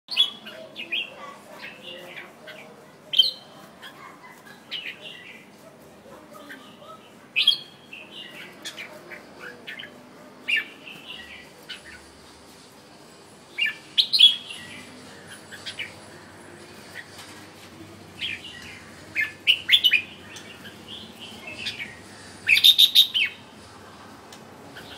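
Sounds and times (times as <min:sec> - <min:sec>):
bird chirping phrases: 0:00.1 - 0:12.3, 0:13.4 - 0:23.6.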